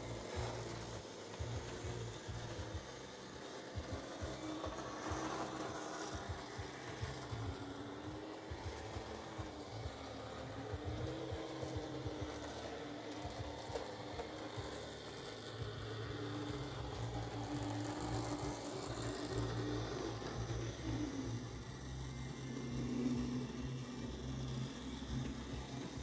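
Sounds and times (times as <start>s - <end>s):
small electric motor whirring: 0.0s - 26.0s.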